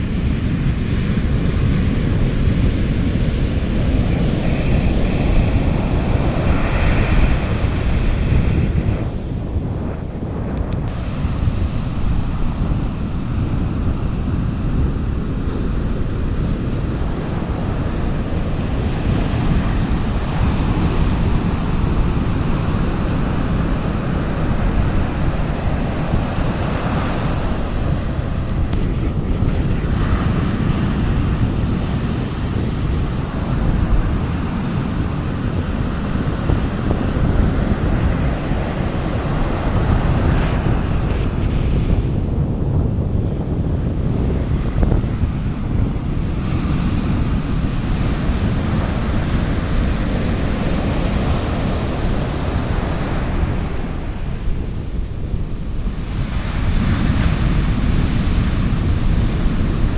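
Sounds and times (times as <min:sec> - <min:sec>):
sea waves washing onto beach: 0:00.0 - 0:59.9
wind rumbling on microphone: 0:00.0 - 0:59.9.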